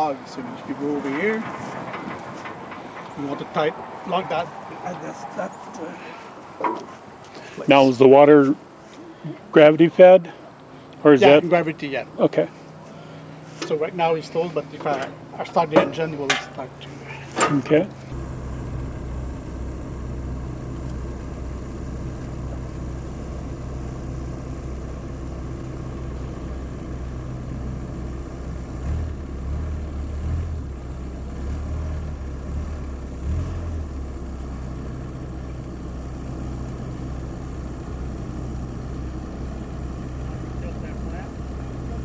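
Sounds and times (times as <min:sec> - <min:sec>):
sawmill engine idling: 0:00.0 - 0:42.0.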